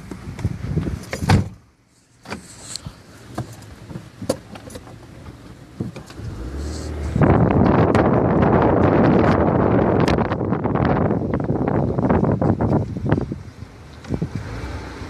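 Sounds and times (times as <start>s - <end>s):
car creeping slowly: 0.0s - 15.0s.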